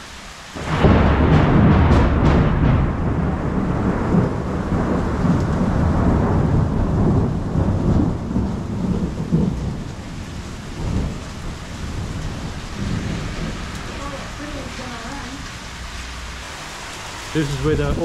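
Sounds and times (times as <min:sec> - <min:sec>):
thunder rumbling: 0:00.0 - 0:16.7
steady rain: 0:00.0 - 0:18.0.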